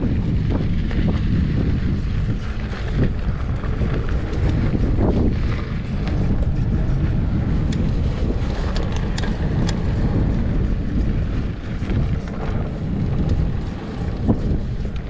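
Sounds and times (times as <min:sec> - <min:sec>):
bike tyres rolling on dirt: 0:00.0 - 0:15.0
sharp clicks and rattles: 0:00.0 - 0:15.0
wind buffeting microphone: 0:00.0 - 0:15.0.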